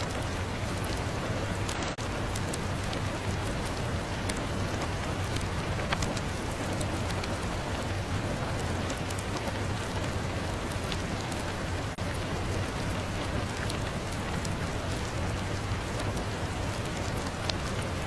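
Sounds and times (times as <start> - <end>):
fireplace crackling: 0.0 - 18.0
rain hiss: 0.0 - 18.0.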